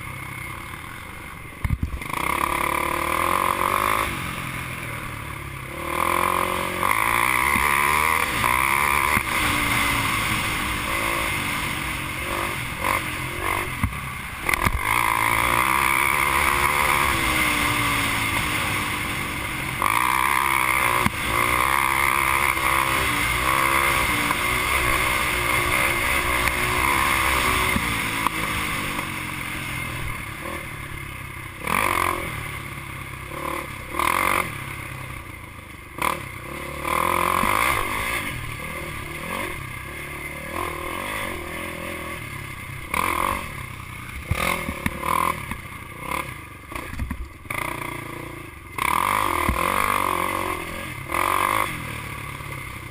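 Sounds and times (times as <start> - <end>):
quad engine revving: 0.0 - 52.9.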